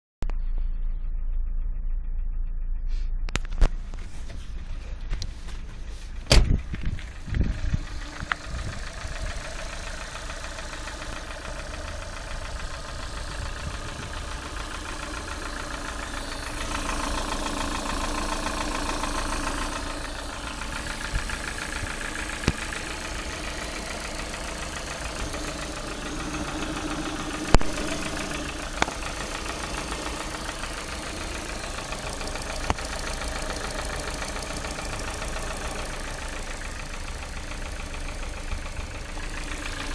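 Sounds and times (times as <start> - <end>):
car engine idling with knock: 3.4 - 39.9.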